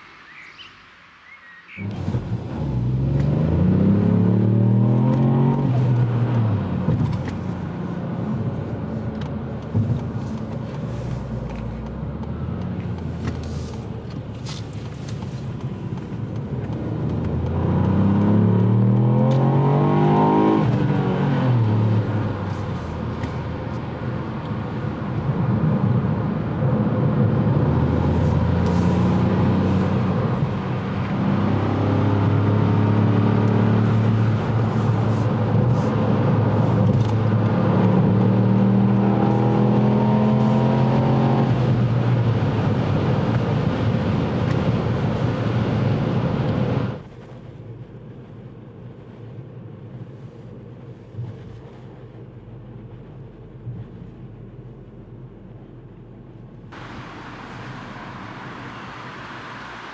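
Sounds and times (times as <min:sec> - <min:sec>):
road noise: 0:00.0 - 0:51.0, 0:51.8 - 0:59.9
car engine accelerating: 0:01.8 - 0:47.0, 0:56.6 - 0:59.9.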